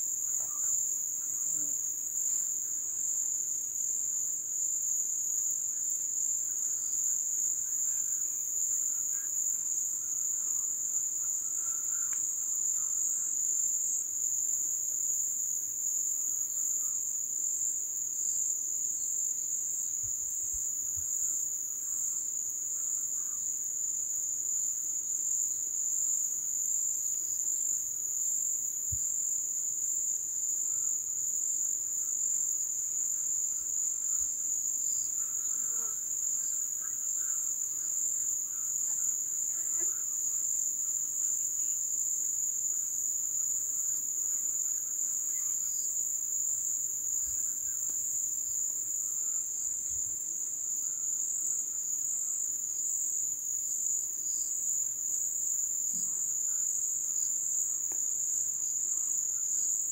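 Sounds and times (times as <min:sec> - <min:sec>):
crickets trilling: 0:00.0 - 0:17.6, 0:18.2 - 0:59.9.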